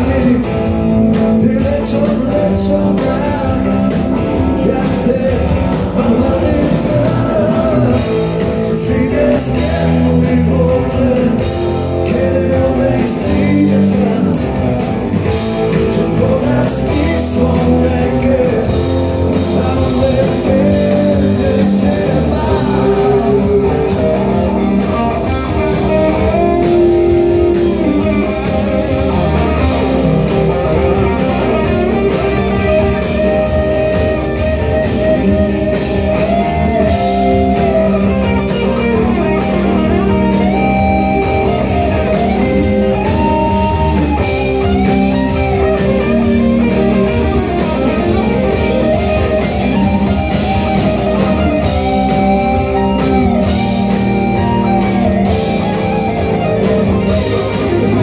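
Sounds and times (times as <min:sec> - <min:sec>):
bass: 0:00.0 - 0:58.0
drums: 0:00.0 - 0:58.0
electric guitar lead: 0:00.0 - 0:58.0
keyboard: 0:00.0 - 0:58.0.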